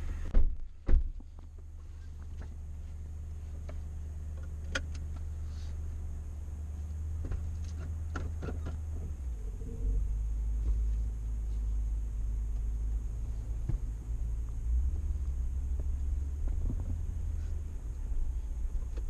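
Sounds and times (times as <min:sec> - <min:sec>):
vehicle driving rumble: 0:00.0 - 0:19.0.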